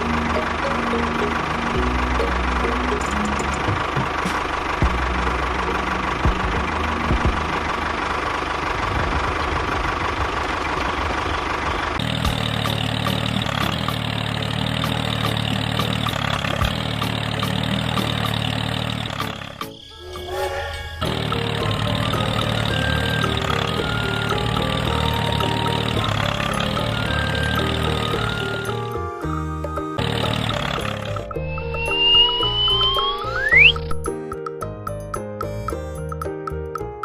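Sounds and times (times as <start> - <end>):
small engine running: 0.0 - 19.8, 21.0 - 34.0.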